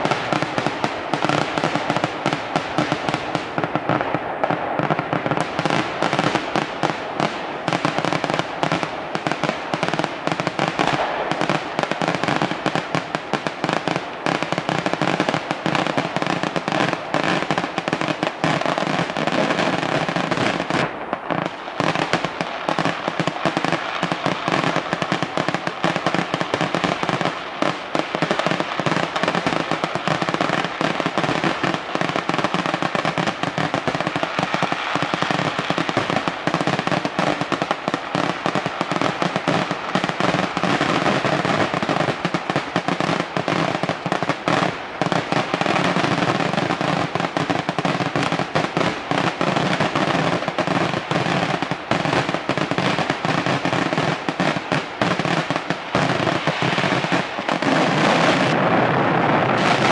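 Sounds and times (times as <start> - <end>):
firecrackers banging in a barrage: 0.0 - 59.9.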